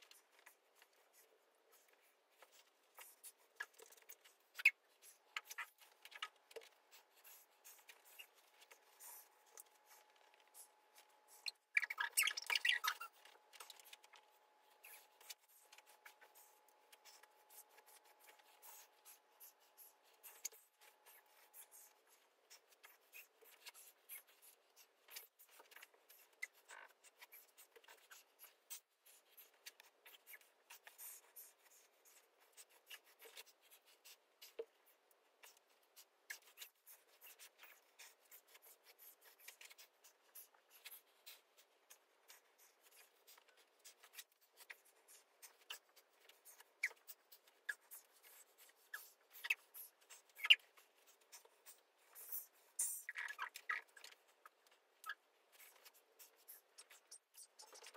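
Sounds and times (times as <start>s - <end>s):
faint rustling on a mat: 0.0s - 57.9s.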